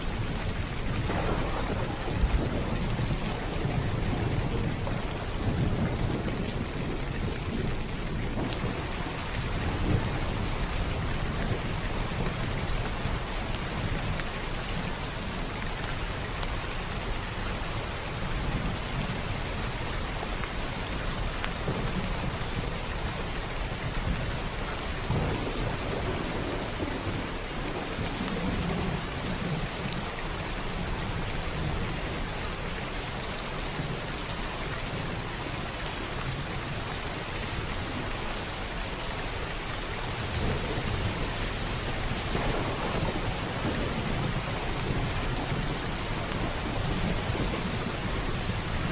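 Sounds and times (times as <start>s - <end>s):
thunder rumbling: 0.0s - 15.4s, 21.1s - 32.6s, 33.8s - 48.9s
heavy rain on a roof: 0.0s - 48.9s.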